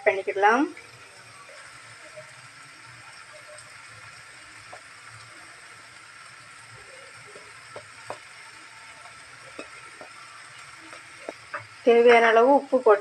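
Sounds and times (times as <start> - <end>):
faint sizzling in a pan: 0.0 - 13.0.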